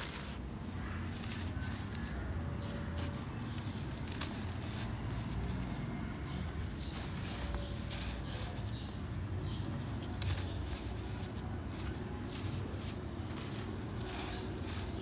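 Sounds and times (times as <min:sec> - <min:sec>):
hand crunching dry dirt: 0:00.0 - 0:15.0.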